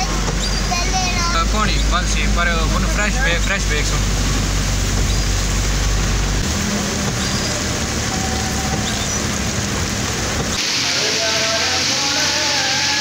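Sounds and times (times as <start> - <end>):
engine rumble: 0.0 - 13.0
heavy rain on vehicle roof: 0.0 - 13.0.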